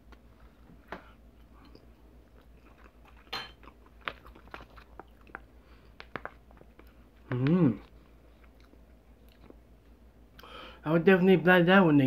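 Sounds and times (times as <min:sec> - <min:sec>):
person chewing: 0:00.0 - 0:10.5.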